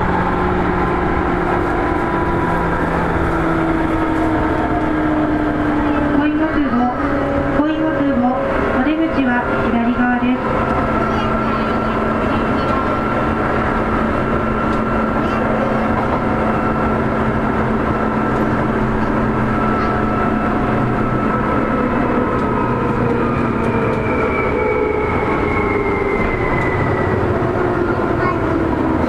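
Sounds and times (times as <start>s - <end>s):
train motor whine: 0.0s - 29.0s
wheels rumbling on rail: 0.0s - 29.0s.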